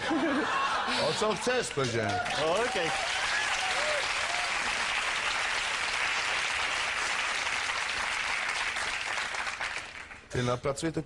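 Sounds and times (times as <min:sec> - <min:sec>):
audience applauding: 0:00.6 - 0:10.3.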